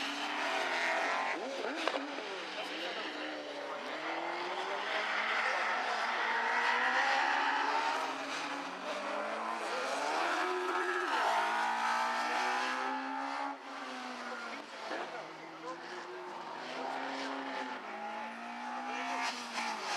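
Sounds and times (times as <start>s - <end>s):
rally car engine revving: 0.0s - 19.9s.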